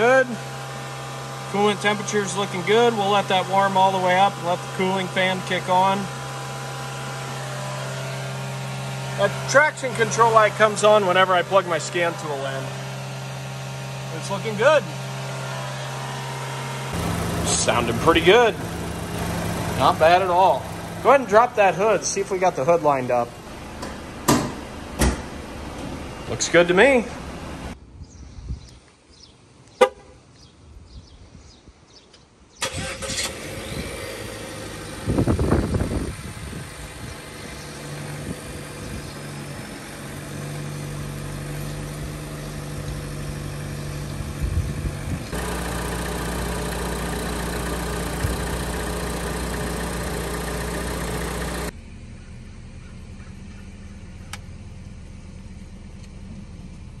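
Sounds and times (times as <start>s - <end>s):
car engine running: 0.0s - 27.8s, 32.9s - 53.2s.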